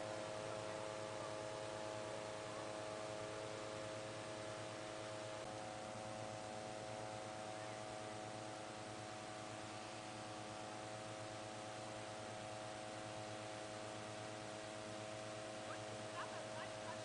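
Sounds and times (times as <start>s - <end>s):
inflator fan engine humming: 0.0s - 17.0s.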